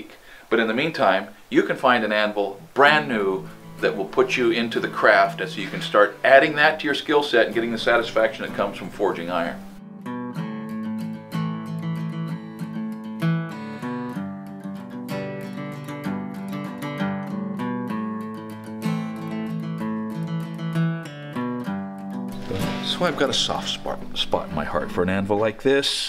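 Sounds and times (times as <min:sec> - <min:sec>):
acoustic guitar picking and strumming: 0:00.8 - 0:26.0.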